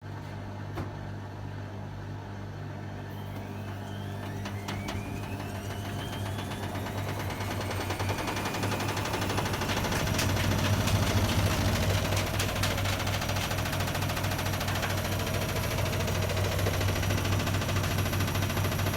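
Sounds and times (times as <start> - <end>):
washing machine spinning: 2.9 - 18.9.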